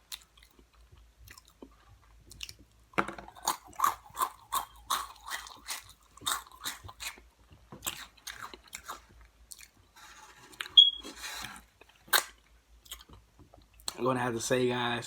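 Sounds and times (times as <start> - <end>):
crunchy chewing of snacks: 0.0 - 14.0.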